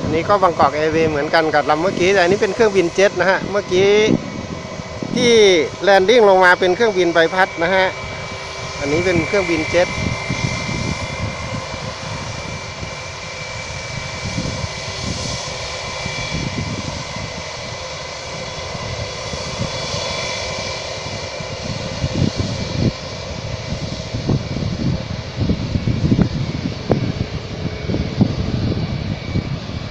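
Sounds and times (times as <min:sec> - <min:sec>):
low rumbles: 0:00.0 - 0:20.2, 0:21.2 - 0:29.9
jet engines whining: 0:00.0 - 0:29.9.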